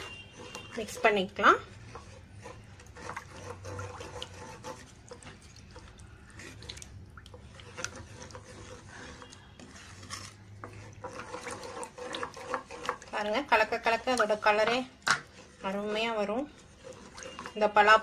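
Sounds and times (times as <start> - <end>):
spoon scraping and knocking pan: 0.0 - 6.7, 7.4 - 18.0
liquid sloshing in pan: 0.0 - 18.0.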